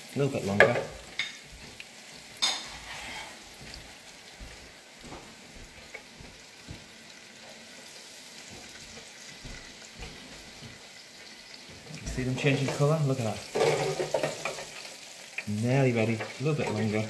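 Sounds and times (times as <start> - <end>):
onions deep-frying in oil: 0.0 - 17.0.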